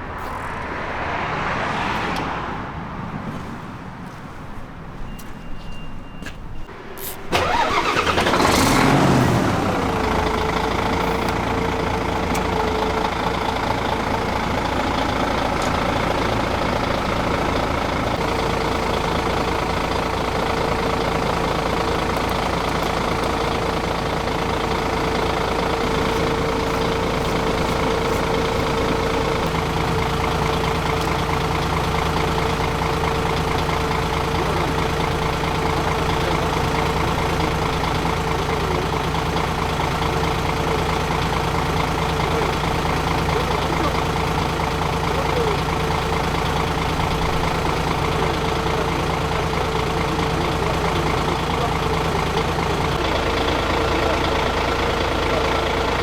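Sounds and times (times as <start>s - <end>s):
engine idling whine: 5.1s - 56.0s
diesel truck engine starting: 6.5s - 56.0s.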